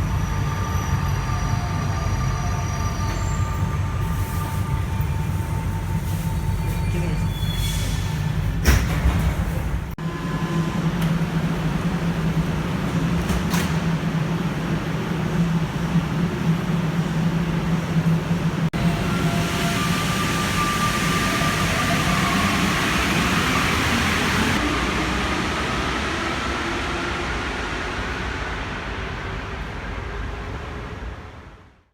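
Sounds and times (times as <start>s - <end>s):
train rushing noise: 0.0s - 31.7s
train low hum: 0.0s - 31.9s.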